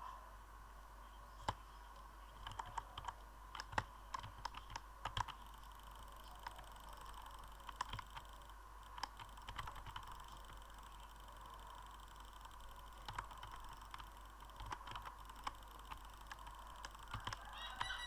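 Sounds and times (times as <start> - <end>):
quick irregular clicks: 1.4 - 18.0.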